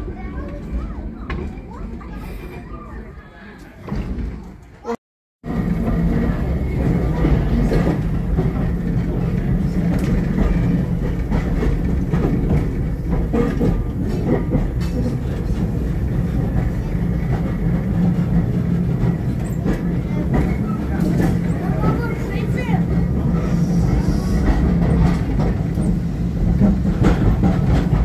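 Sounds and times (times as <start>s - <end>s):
tram rumbling: 0.0s - 28.0s.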